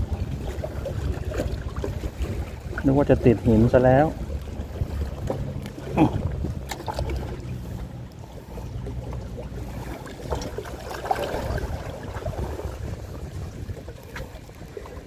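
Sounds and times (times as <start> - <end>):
low motor hum: 0.0 - 15.0
water noise: 0.0 - 15.0
wind: 0.0 - 15.0.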